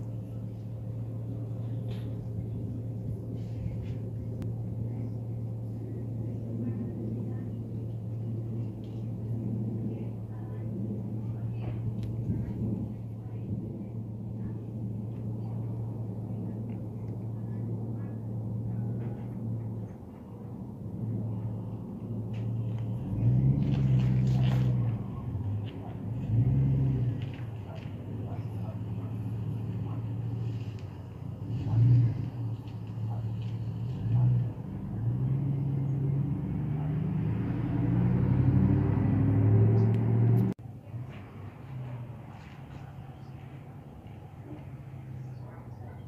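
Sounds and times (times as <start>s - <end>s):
jet airliner rumble overhead: 0.0s - 46.0s.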